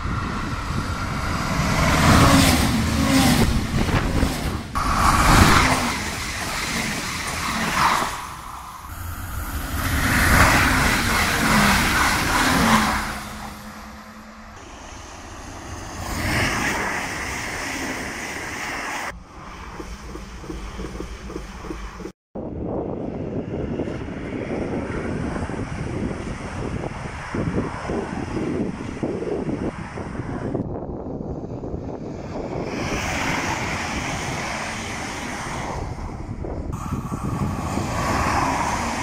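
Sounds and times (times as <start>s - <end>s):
trains passing by: 0.0s - 39.0s.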